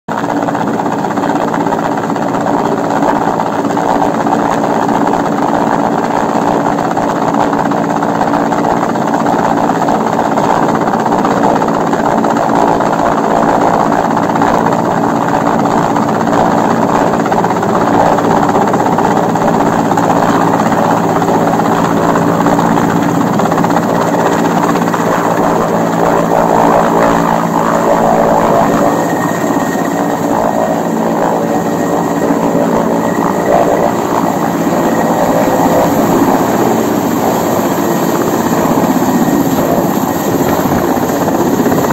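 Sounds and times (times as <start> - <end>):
helicopter engines and rotor: 0.1 - 41.9.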